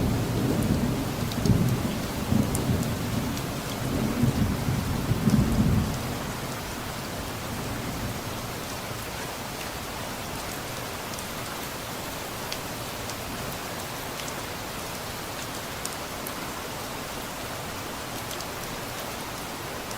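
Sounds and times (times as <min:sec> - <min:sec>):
steady rain: 0:00.0 - 0:19.9.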